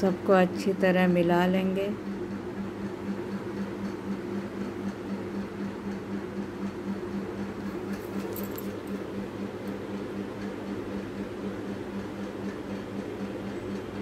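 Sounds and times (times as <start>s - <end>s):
pulsing low hum: 0.0s - 14.0s.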